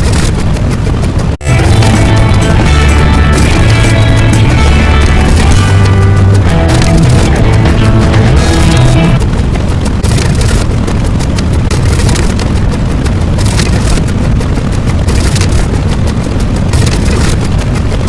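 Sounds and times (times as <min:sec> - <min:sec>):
loud crackling rumble: 0:00.0 - 0:18.0.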